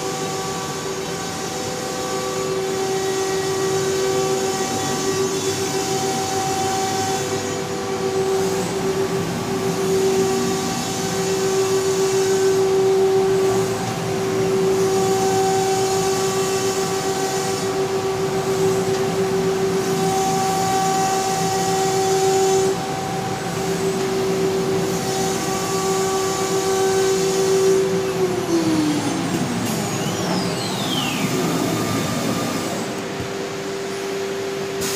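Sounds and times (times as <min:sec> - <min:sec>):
router spindle whining: 0:00.0 - 0:34.8.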